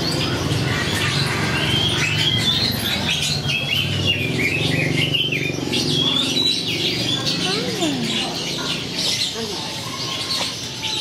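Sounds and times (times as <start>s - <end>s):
birds chirping and twittering: 0.0s - 11.0s
low background murmur: 0.0s - 11.0s.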